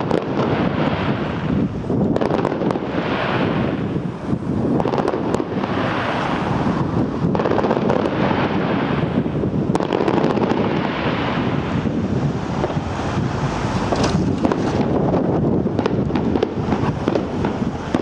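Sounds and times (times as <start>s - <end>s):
faint fireworks cracks: 0.0s - 18.0s
wind buffeting microphone: 0.0s - 18.0s.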